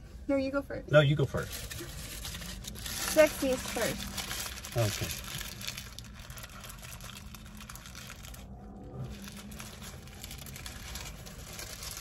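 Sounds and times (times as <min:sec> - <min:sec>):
paper wrapper crinkling: 0:01.4 - 0:12.0.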